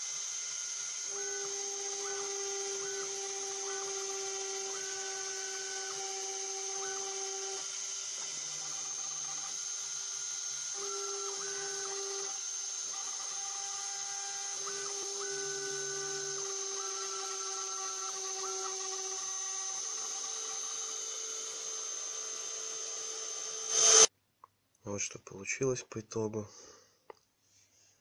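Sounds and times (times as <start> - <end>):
high spindle whine: 0.0 - 24.1
stepper motors singing tones: 0.0 - 24.1.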